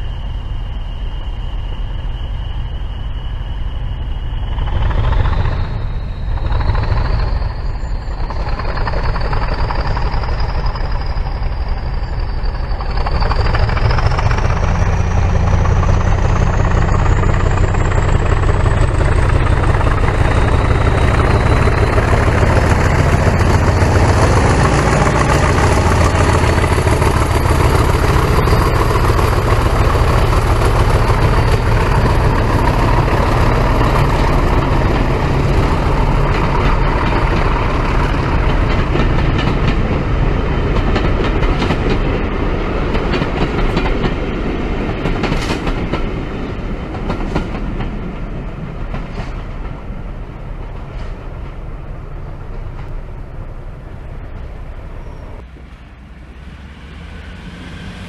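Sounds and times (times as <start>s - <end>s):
diesel train running on track: 0.0s - 58.0s.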